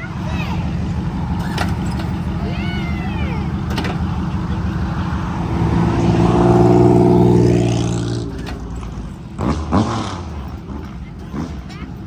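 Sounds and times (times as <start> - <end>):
car engine accelerating away: 0.0 - 12.0.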